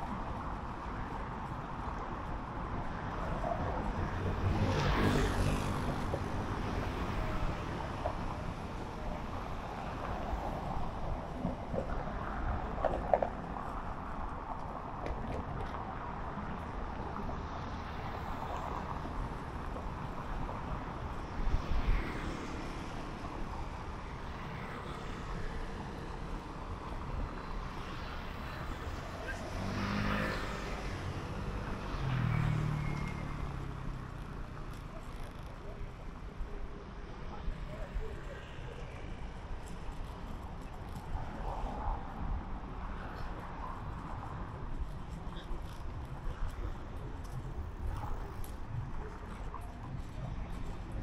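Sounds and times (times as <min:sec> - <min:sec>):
steady traffic hum: 0:00.0 - 0:51.0.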